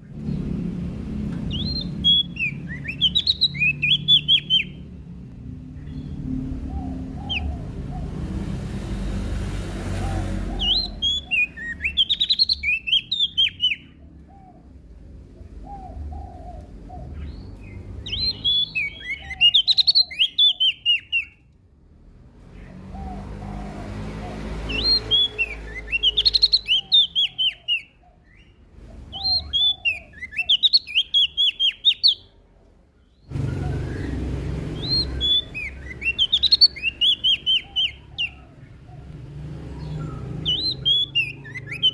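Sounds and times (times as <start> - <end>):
warbler chirping song: 0.0 - 21.5, 22.3 - 41.9.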